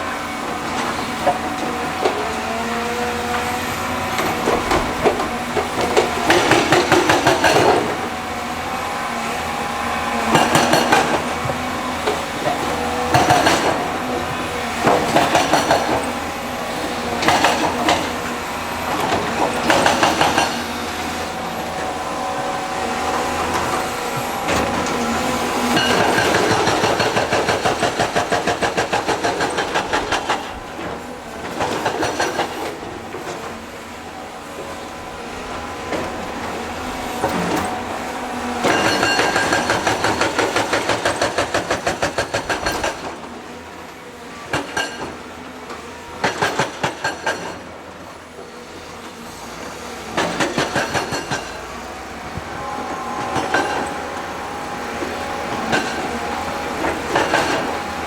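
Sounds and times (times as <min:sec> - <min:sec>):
construction machinery engine drone: 0:00.0 - 0:58.0.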